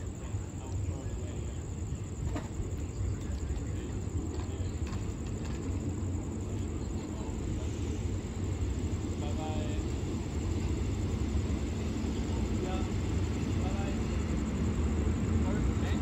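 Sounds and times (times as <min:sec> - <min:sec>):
diesel train rumble: 0:00.0 - 0:16.0
high insect trill: 0:00.0 - 0:16.0.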